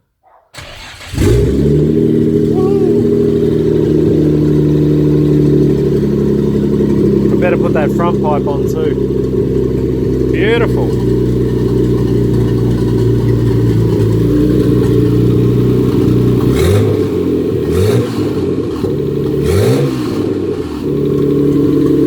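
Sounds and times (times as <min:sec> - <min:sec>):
car engine idling and revving: 0:00.6 - 0:22.0.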